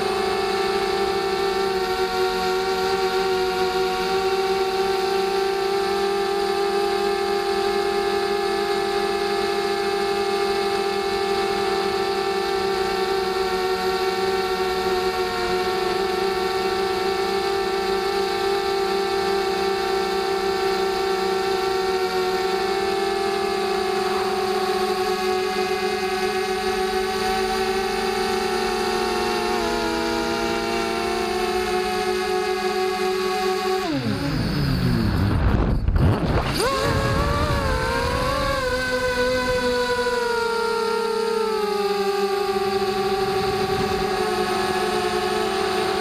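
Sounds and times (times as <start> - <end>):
quadcopter motors whining: 0.0 - 46.0.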